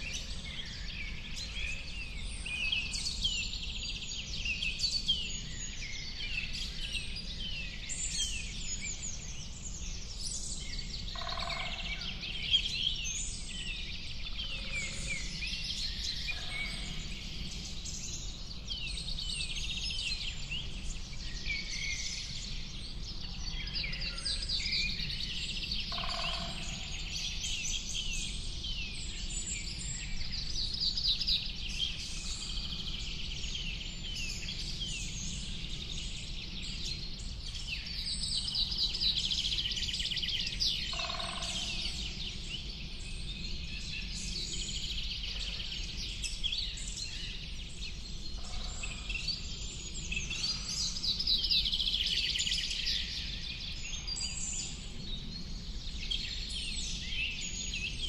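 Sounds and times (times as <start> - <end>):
birds chirping and trilling: 8.0 - 58.0.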